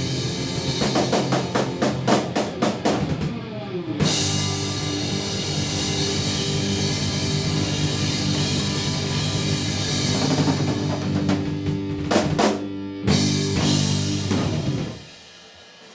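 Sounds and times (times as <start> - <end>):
rock band playing live: 0.0 - 15.7.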